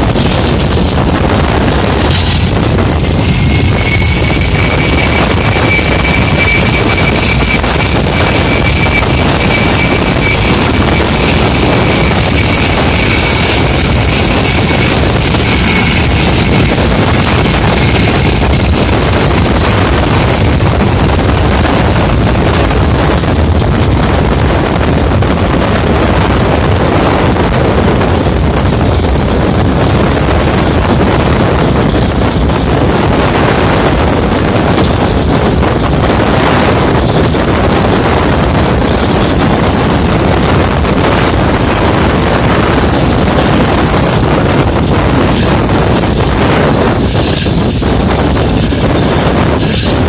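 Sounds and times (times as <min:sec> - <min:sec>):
jet engines roaring at takeoff: 0:00.0 - 0:50.0
wind buffeting on microphone: 0:00.0 - 0:50.0.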